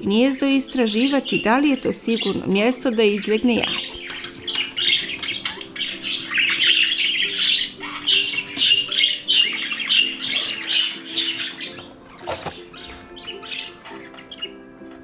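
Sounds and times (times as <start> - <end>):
soft background music: 0.0 - 15.0
budgerigars chirping: 0.1 - 15.0.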